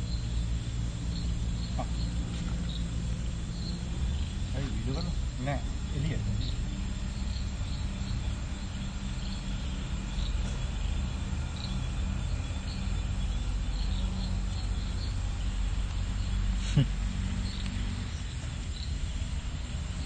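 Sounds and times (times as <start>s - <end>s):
insects chirping: 0.0s - 20.0s
steady low hum: 0.0s - 20.0s.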